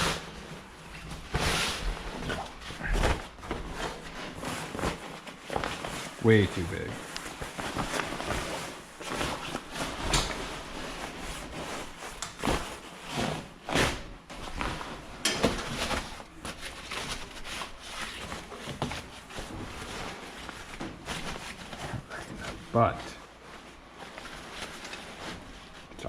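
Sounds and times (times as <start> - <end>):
tarp rustling and scraping: 0.0 - 26.0.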